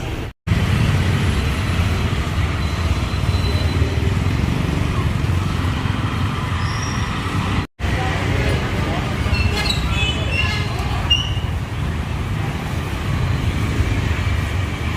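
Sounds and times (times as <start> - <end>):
low traffic rumble: 0.0 - 14.9.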